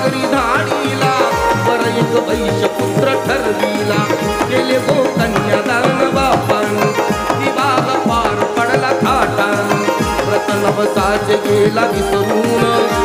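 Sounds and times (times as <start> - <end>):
hand drum beat: 0.0 - 13.0
wavering melodic instrument: 0.0 - 13.0.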